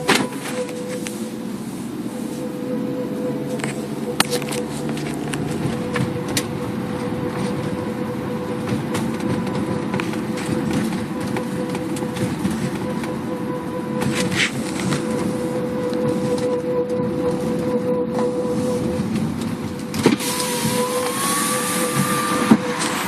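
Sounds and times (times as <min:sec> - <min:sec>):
car hum: 0:00.0 - 0:23.0
road noise: 0:00.0 - 0:23.0.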